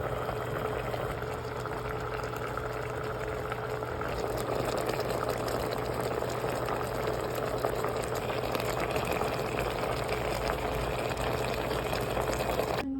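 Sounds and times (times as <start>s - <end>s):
faint steady hum: 0.0s - 12.9s.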